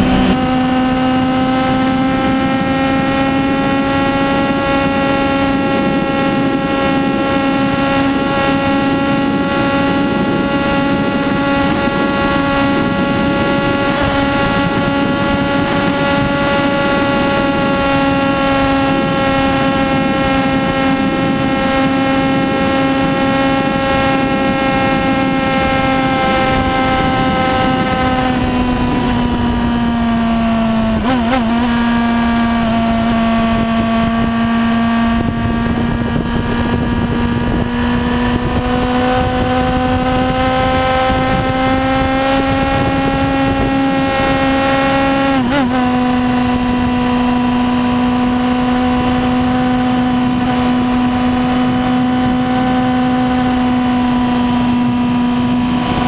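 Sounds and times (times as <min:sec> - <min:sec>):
motorcycle engine running hard: 0:00.0 - 0:56.0
wind rushing over microphone: 0:00.0 - 0:56.0.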